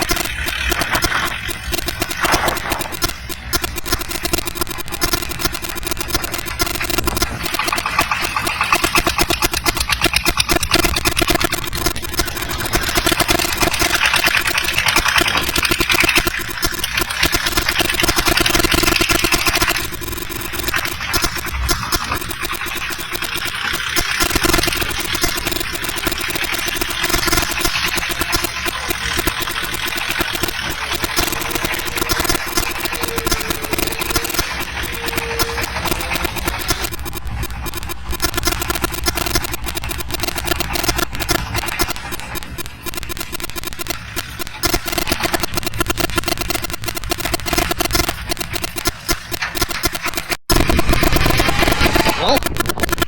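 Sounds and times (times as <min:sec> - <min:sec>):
faint whine: 0:00.0 - 0:53.0
heavy vehicle engine running: 0:00.0 - 0:53.0.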